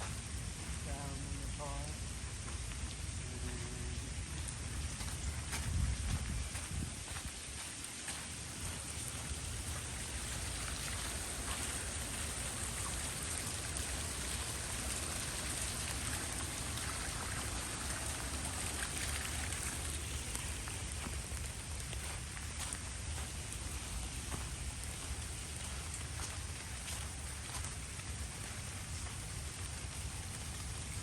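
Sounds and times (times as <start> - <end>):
water splashing from fountain: 0.0 - 6.2, 7.0 - 31.0.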